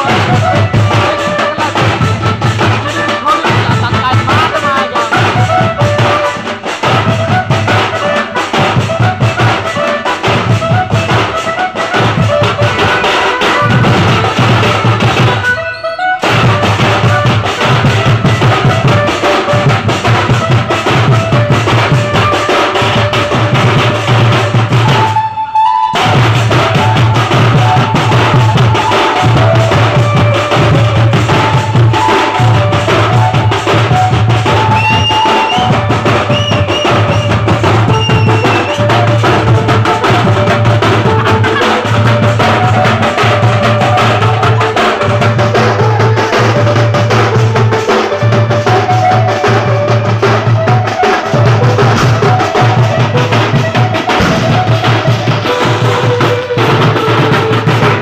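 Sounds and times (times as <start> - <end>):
pounding drum beat: 0.0 - 25.2, 25.9 - 58.0
street band playing dance tune: 0.0 - 58.0.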